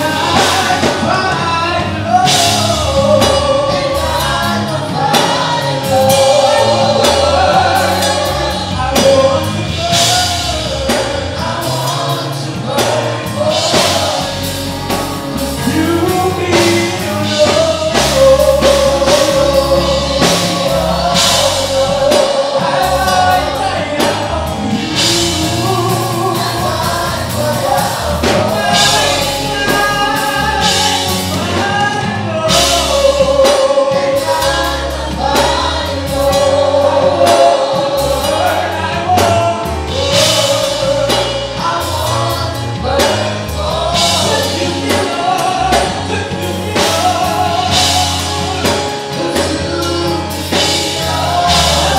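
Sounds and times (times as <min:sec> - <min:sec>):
band with bass and drums: 0:00.0 - 0:51.9
group of voices singing: 0:00.0 - 0:51.9.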